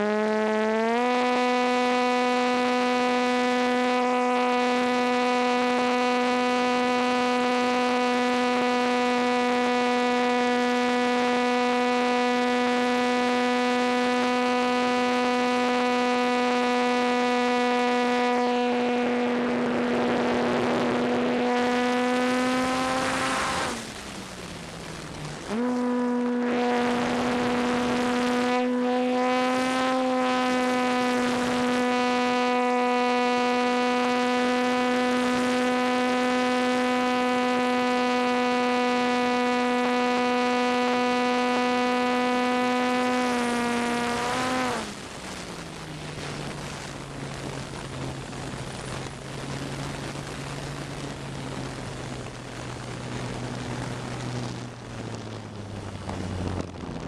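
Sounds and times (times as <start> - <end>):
model airplane motor whine: 0.0 - 57.0.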